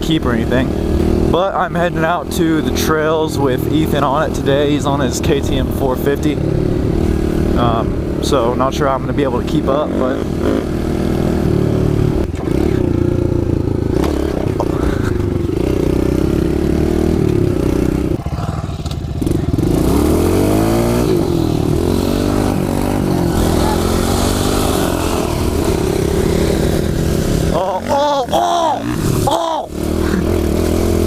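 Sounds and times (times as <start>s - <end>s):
small motorcycle engine revving: 0.2s - 31.0s.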